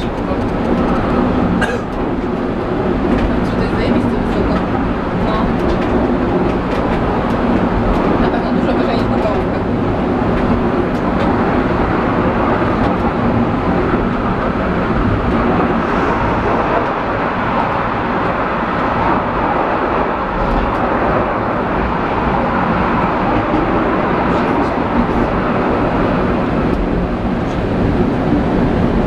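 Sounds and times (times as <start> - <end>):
rolling rumble of wheels on track: 0.0 - 29.0.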